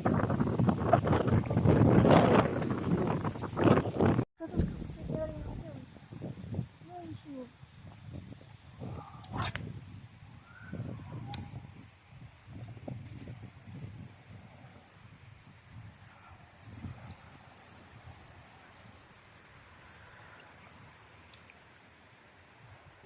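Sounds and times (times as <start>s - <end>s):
wind buffeting microphone: 0.0s - 21.4s.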